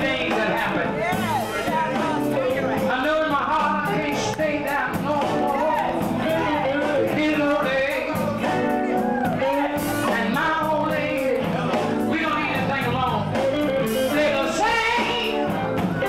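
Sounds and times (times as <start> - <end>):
live blues band playing: 0.0 - 16.0
man singing: 0.0 - 16.0.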